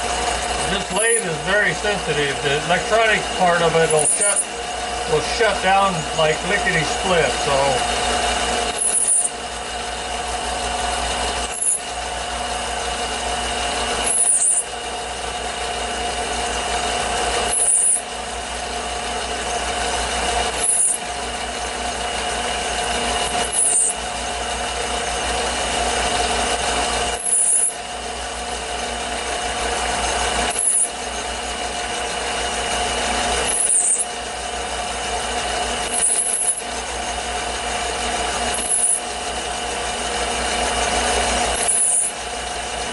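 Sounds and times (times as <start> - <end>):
drill bit grinding into metal: 0.0 - 42.9
lathe motor whine: 0.0 - 42.9.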